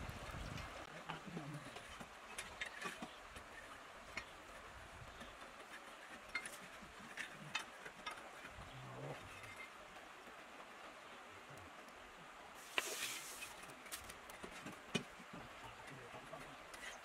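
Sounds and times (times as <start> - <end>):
faint river hiss: 0.0 - 17.0.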